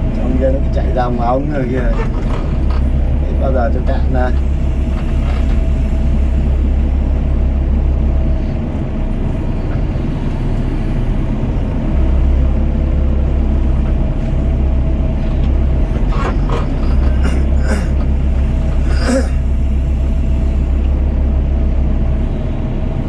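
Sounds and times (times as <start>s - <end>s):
excavator diesel engine rumbling: 0.0s - 23.0s.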